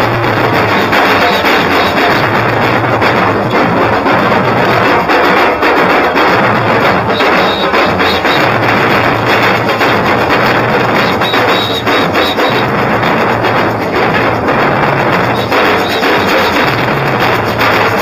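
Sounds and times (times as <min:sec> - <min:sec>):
bass drums struck with mallets: 0:00.0 - 0:18.0
drum group playing fast rhythm: 0:00.0 - 0:18.0.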